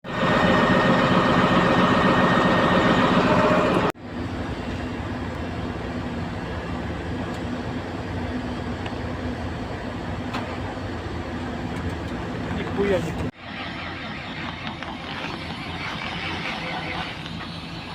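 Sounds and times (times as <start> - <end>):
engine drone: 0.0 - 17.9
heavy machinery roar: 0.0 - 17.9.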